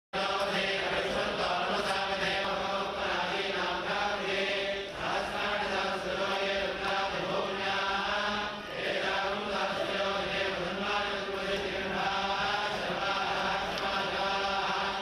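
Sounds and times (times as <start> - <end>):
priests chanting: 0.2 - 15.0.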